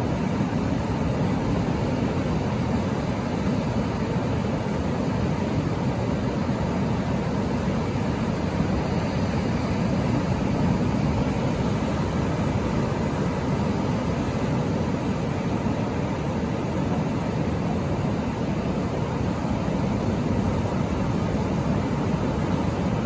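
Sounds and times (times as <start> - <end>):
ocean surf rushing: 0.0 - 23.0.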